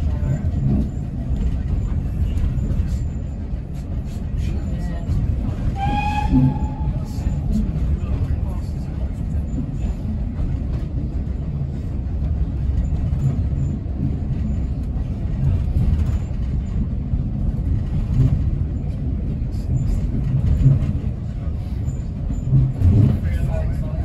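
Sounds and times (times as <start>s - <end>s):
railway carriage rumbling on track: 0.0s - 24.0s.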